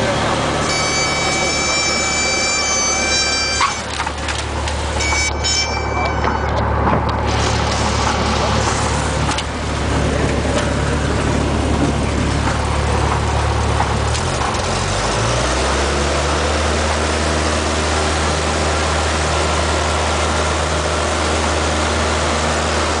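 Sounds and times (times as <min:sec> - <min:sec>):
aircraft engine and propeller drone: 0:00.0 - 0:23.0.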